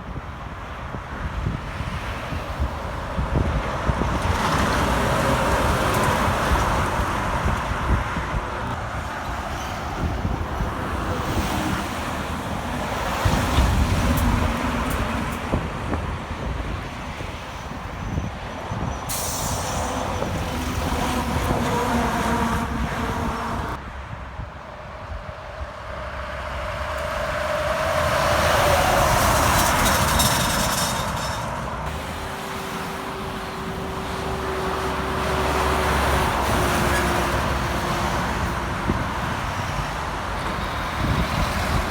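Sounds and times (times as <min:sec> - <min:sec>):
diesel trucks passing: 0:00.0 - 0:41.9.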